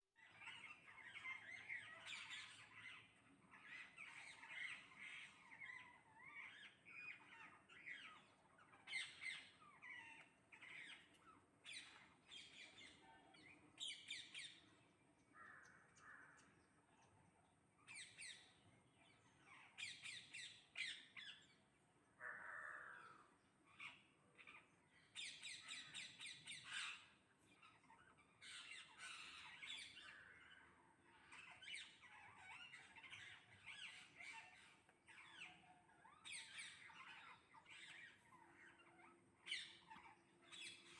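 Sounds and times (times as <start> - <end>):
parrots squawking and chattering: 0.2 - 14.8, 17.8 - 21.6, 22.2 - 40.9.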